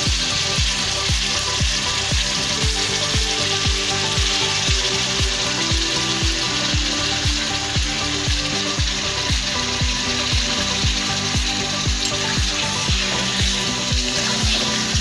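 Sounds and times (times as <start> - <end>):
meat sizzling in hot oil: 0.0 - 15.0
music with thumping beat: 0.0 - 15.0.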